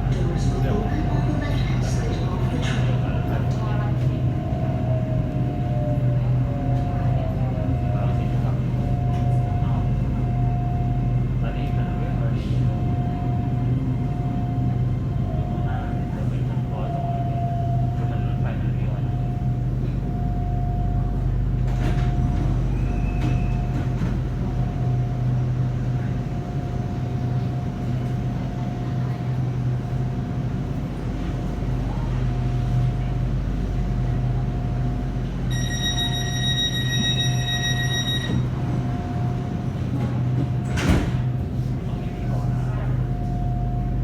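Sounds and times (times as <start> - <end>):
train hum and rumble: 0.0 - 44.0.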